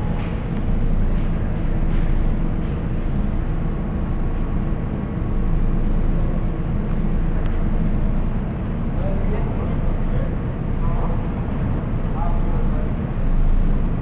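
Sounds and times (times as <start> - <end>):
faint hum: 0.0 - 14.0
subway train rumbling: 0.0 - 14.0.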